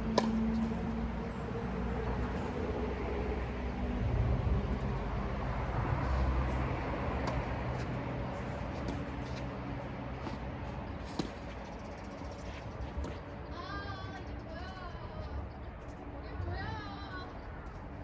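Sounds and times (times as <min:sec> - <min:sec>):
engine rumble: 0:00.0 - 0:18.0.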